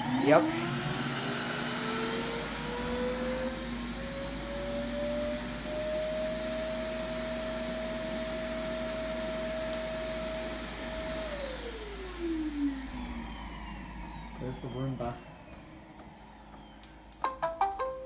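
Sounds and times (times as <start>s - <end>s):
suction motor whine: 0.0s - 16.8s.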